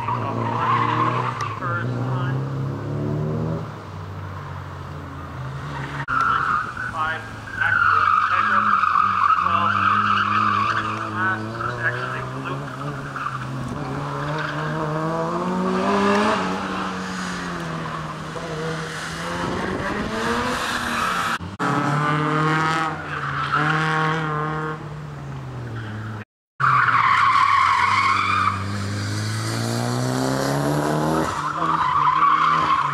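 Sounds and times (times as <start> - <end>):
tires squealing: 0.0 - 3.7, 4.3 - 32.9
car engines revving: 0.0 - 32.9.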